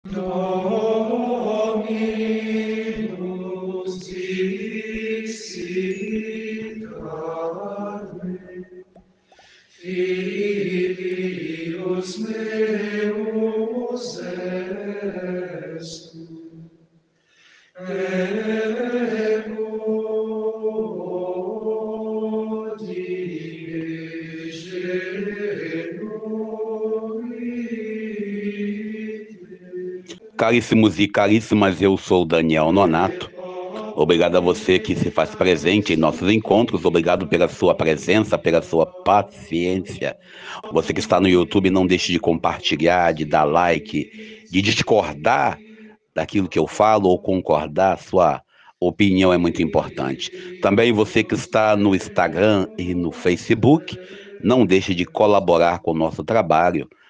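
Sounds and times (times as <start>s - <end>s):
chanted singing: 0.0s - 8.9s, 9.8s - 16.6s, 17.8s - 56.0s.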